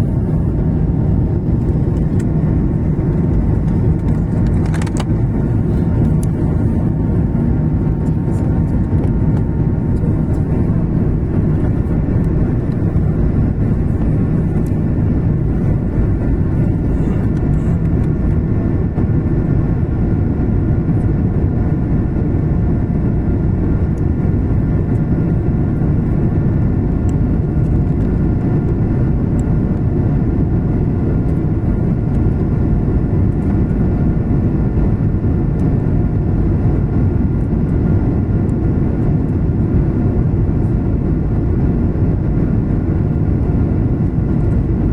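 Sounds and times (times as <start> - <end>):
airliner engines rumbling and whining: 0.0 - 44.9.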